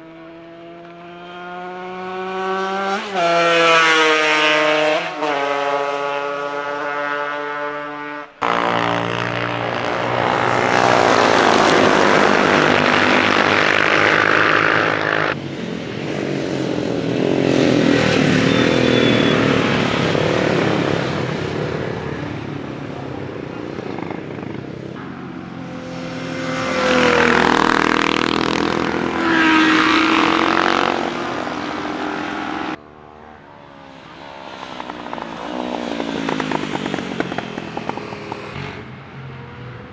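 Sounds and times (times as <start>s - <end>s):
racing motorcycles passing: 0.0s - 39.9s.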